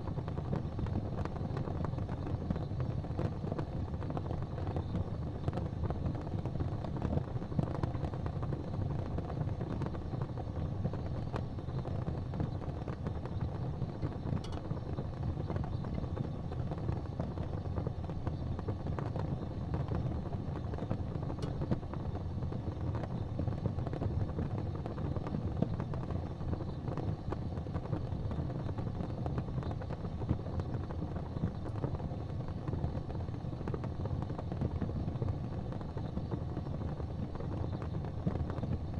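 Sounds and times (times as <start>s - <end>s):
faint fire pops: 0.0s - 38.9s
fire burning in fireplace: 0.0s - 38.9s.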